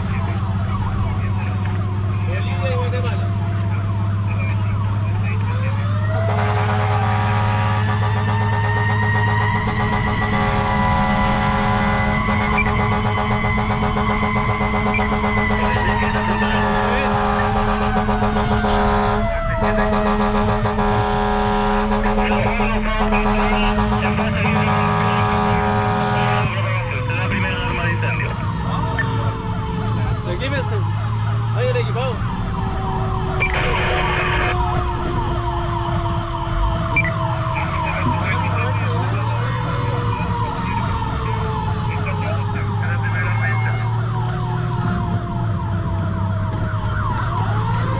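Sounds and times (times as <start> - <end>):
fire engine droning: 0.0 - 47.9
siren winding down: 0.0 - 47.9.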